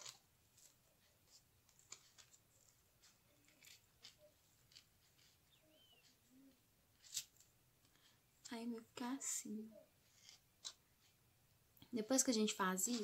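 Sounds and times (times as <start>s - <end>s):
faint clicks and rustles of foam: 0.0s - 9.4s, 10.0s - 11.2s.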